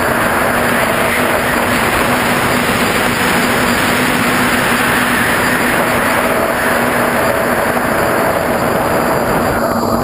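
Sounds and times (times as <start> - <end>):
quadcopter propellers rushing: 0.0 - 10.0.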